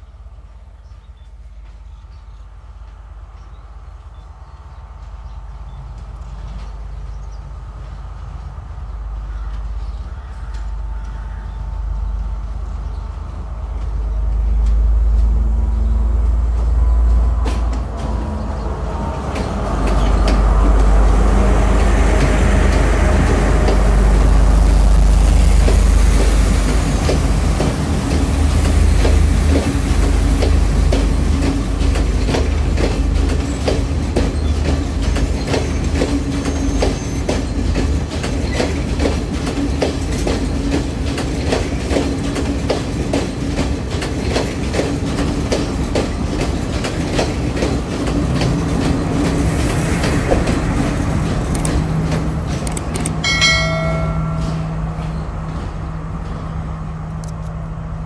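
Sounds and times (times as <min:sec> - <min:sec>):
train wheels clicking over rail joints: 0:05.0 - 0:57.9.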